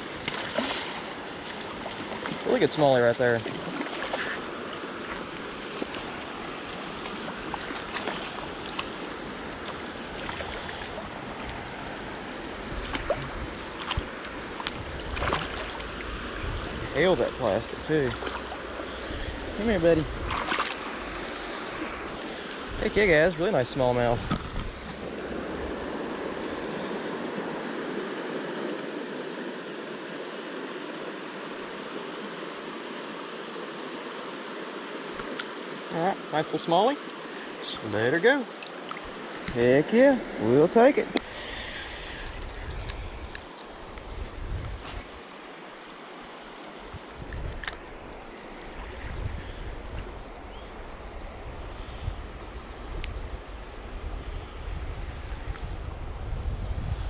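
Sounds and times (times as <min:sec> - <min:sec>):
river current rippling: 0:00.0 - 0:57.0.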